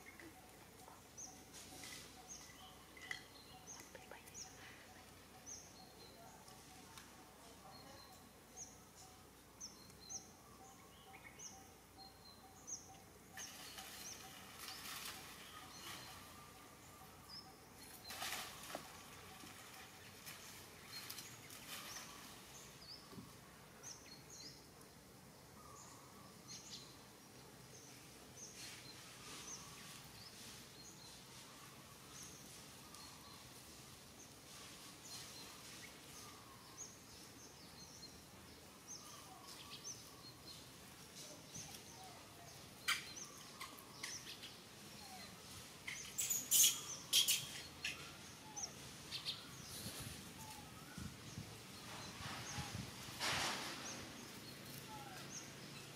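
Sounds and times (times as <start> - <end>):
birds chirping: 0.0 - 55.9
outdoor background noise: 0.0 - 55.9.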